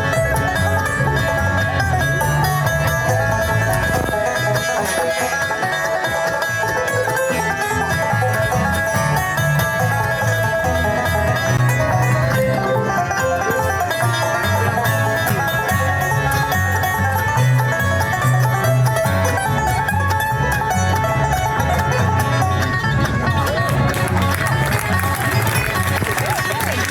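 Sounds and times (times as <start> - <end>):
guitar: 0.0 - 26.9
low bass notes: 0.0 - 26.9
quick banjo picking: 0.0 - 26.9.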